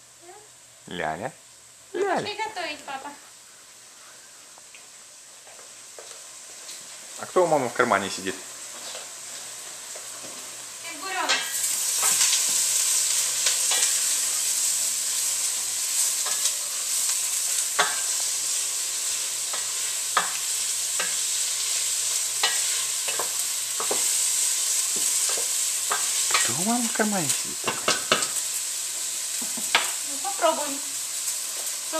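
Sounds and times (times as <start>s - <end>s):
food sizzling in a frying pan: 0.0s - 31.9s.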